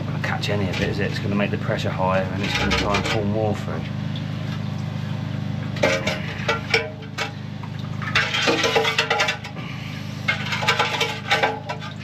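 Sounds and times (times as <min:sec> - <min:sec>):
vacuum unit engine running: 0:00.0 - 0:12.0.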